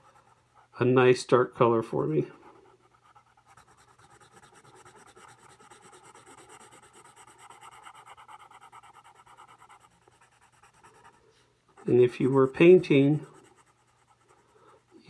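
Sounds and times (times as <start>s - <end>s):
pencil scratching on paper: 0.0s - 0.8s, 2.2s - 15.0s.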